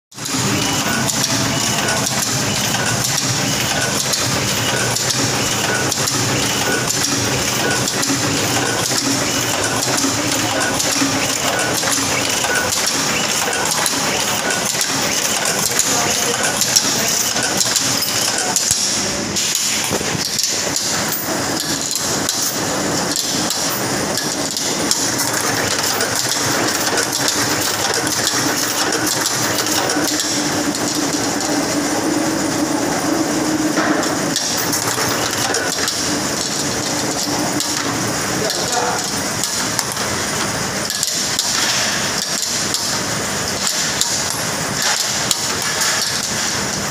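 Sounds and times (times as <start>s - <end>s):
machine clattering and whirring: 0.1s - 46.9s.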